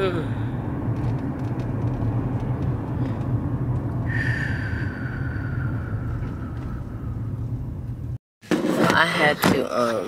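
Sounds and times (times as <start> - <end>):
car rumble inside cabin: 0.0 - 8.2.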